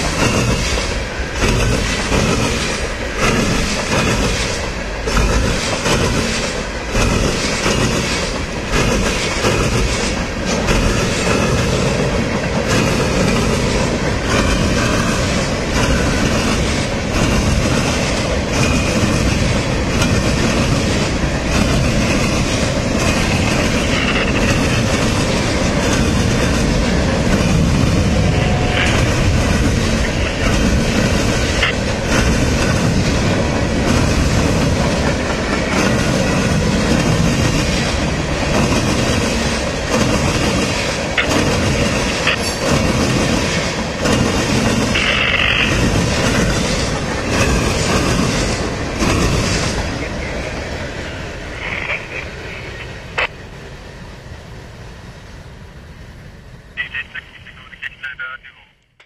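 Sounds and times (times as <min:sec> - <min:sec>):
clicking over rail joints: 0:00.0 - 0:50.1
steel wheels rumbling on rail: 0:00.0 - 0:57.6.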